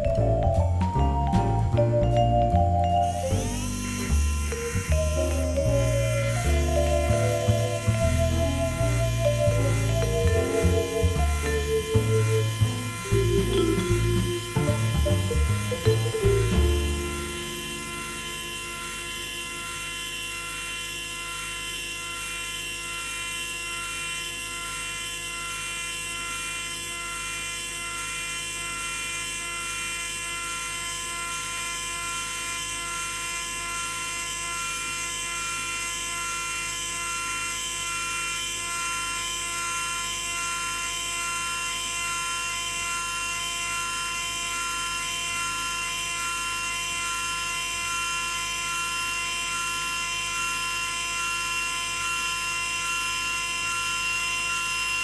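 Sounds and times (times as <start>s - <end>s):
small electric motor whining: 1.8s - 55.0s.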